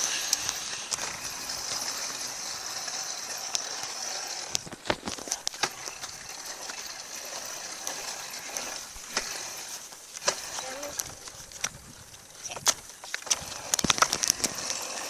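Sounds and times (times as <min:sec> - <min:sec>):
dirt bike rattling and knocking: 0:00.0 - 0:15.0.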